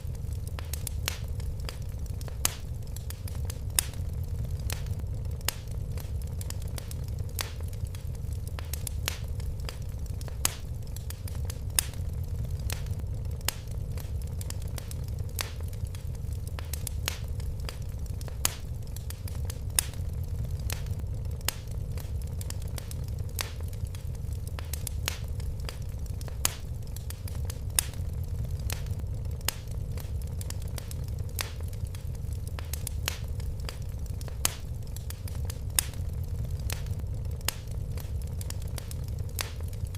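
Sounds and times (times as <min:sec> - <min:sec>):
fire crackling: 0:00.0 - 0:39.9
low rumble of flames: 0:00.0 - 0:39.9.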